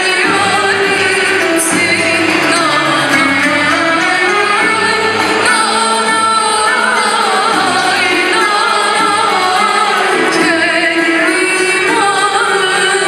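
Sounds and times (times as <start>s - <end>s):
traditional ensemble playing: 0.0s - 13.0s
woman singing folk song: 0.0s - 13.0s.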